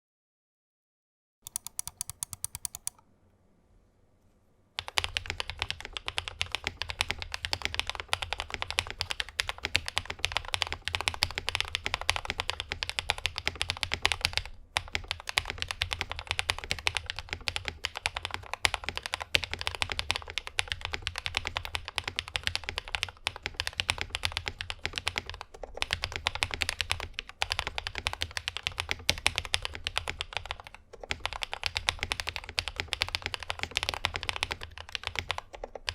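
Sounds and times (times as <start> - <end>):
fast typing on mechanical keyboard: 1.5 - 3.0, 4.8 - 35.9.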